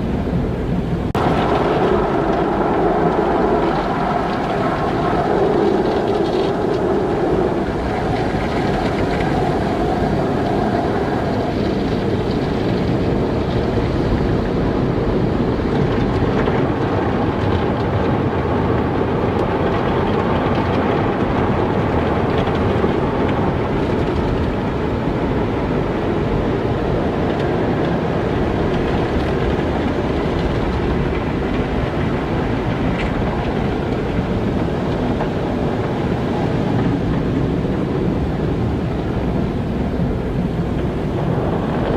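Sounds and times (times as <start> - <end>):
car wash water and machinery: 0.0 - 41.9.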